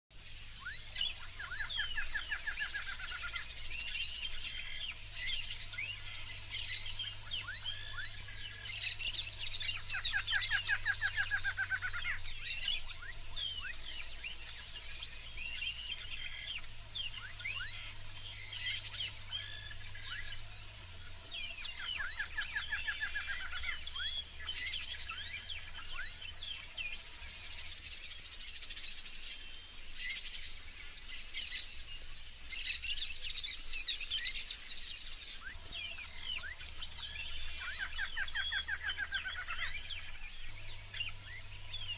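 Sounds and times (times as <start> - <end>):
rapid rattling bird call: 0.2 - 41.9
birds chirping and whistling: 0.3 - 41.9.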